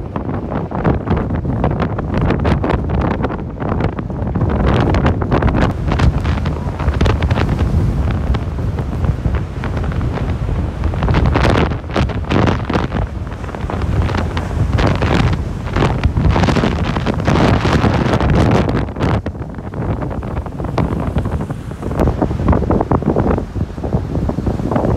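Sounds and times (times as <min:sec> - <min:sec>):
waves crashing against a wall: 0:00.0 - 0:24.9
wind buffeting microphone: 0:00.0 - 0:24.9.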